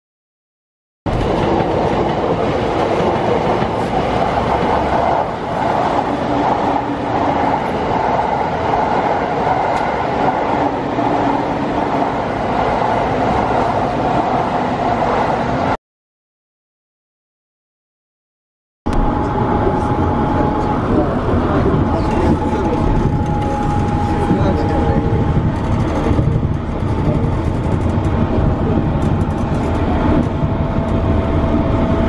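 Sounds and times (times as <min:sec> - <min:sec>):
train wheels on rails: 0:01.1 - 0:15.7, 0:19.0 - 0:32.0.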